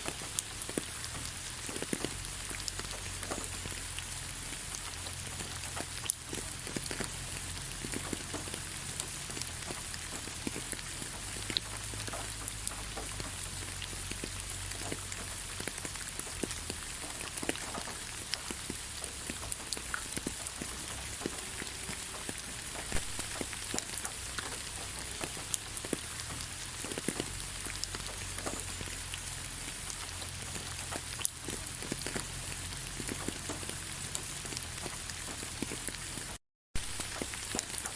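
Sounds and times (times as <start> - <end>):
light rain pattering: 0.0 - 37.9.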